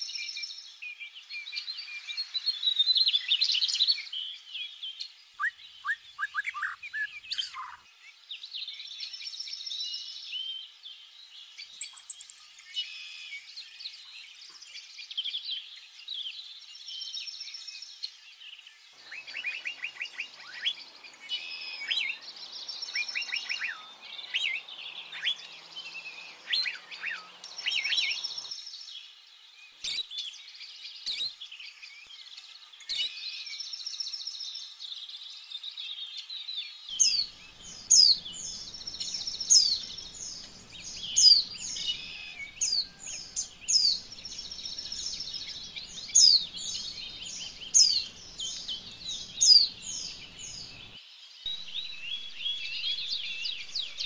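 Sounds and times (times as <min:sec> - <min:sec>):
faint steady hiss: 0:00.0 - 0:06.2, 0:07.2 - 0:54.0
small birds chirping: 0:00.0 - 0:54.0.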